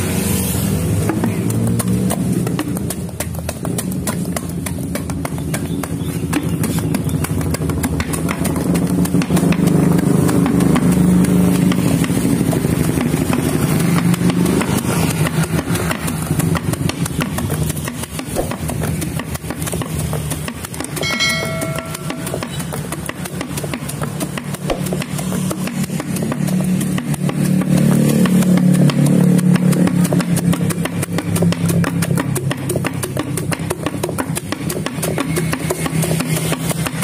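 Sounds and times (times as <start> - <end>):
motorcycle engine running: 0.0 - 37.0
rapid light knocks: 1.1 - 37.0.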